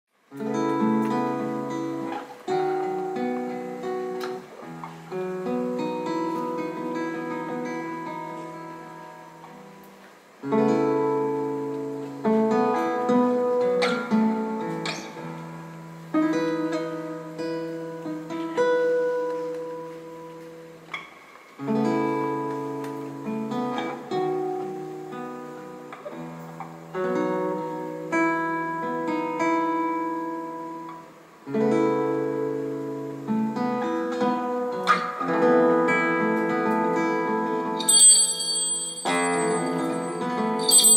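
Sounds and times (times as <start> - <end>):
acoustic guitar strumming chords: 0.3 - 40.9.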